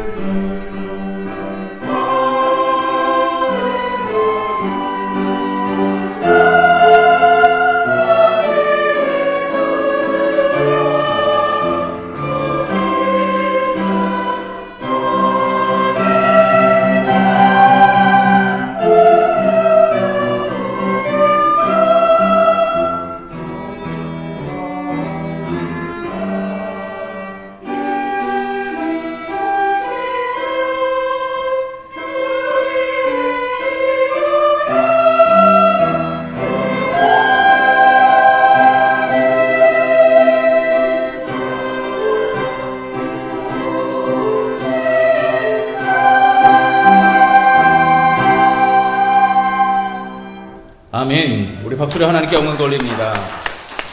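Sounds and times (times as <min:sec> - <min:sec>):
church choir singing: 0:00.0 - 0:53.9
instrumental accompaniment: 0:00.0 - 0:53.9.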